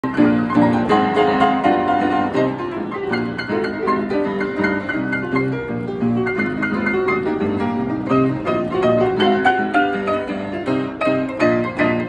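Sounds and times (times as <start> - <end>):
piano four hands: 0.0 - 12.0.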